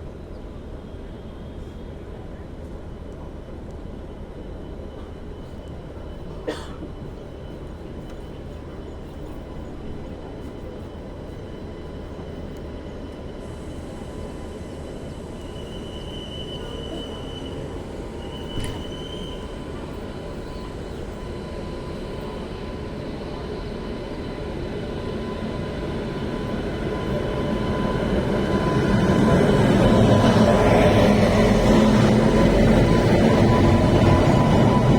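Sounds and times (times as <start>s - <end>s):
train rumble: 0.0s - 34.9s.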